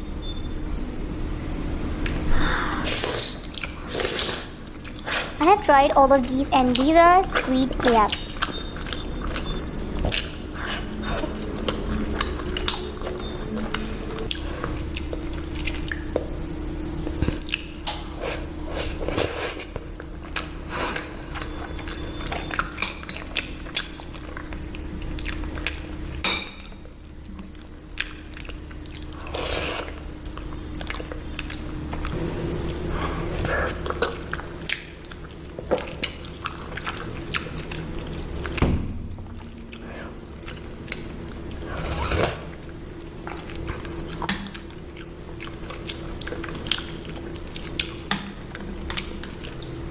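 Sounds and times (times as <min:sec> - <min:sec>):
low hum: 0:04.6 - 0:19.1, 0:19.8 - 0:49.9
person chewing: 0:06.6 - 0:26.0, 0:26.6 - 0:38.6, 0:39.2 - 0:49.9.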